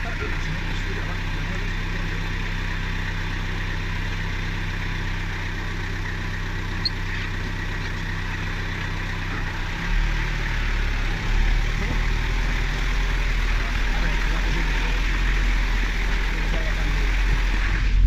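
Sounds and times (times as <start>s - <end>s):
off-road vehicle engine running: 0.0s - 18.0s.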